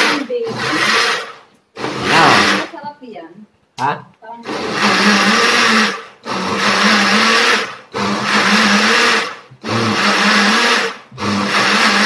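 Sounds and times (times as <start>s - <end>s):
bottle blender motor running: 0.0s - 2.7s, 4.4s - 12.0s.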